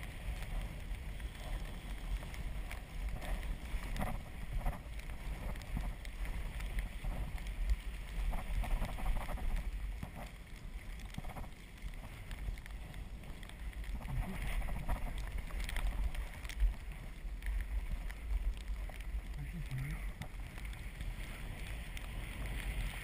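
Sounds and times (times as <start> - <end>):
small clicks: 0.0 - 23.0.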